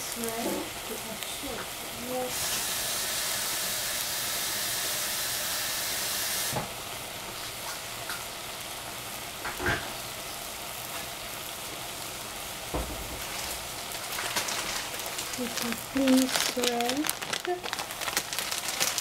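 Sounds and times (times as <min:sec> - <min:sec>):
vegetables sizzling in a saucepan: 0:00.0 - 0:19.0.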